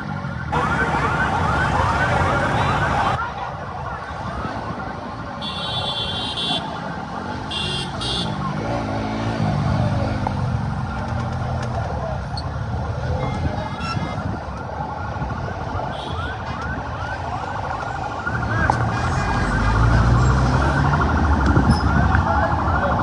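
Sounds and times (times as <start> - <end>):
vehicle siren yelping: 0.0 - 7.5, 11.9 - 23.0
crowd noise: 0.0 - 23.0
street traffic: 0.0 - 23.0.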